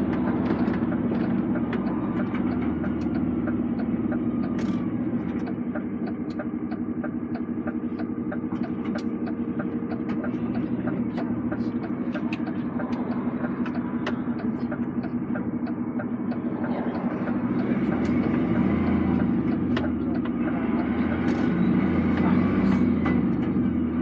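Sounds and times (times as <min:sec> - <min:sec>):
diesel lorry engine running: 0:00.0 - 0:24.0.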